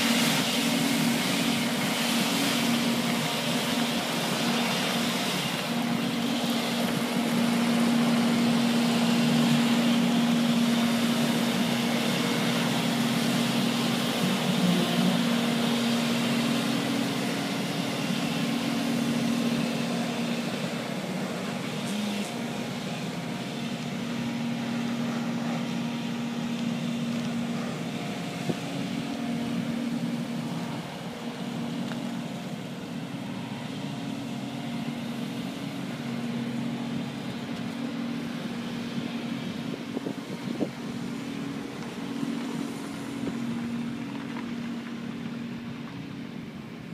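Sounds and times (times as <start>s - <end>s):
sweeper truck droning hum: 0.0s - 46.9s.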